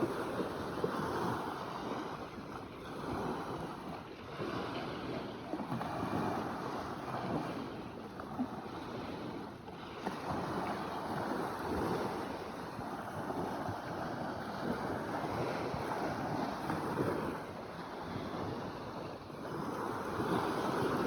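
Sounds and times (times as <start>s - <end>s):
sea waves washing: 0.0s - 21.0s.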